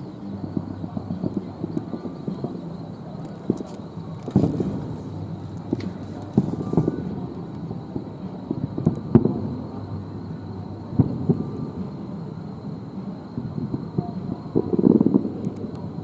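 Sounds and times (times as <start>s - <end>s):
fireworks booming: 0.0s - 16.0s
low rolling rumble: 0.0s - 16.0s.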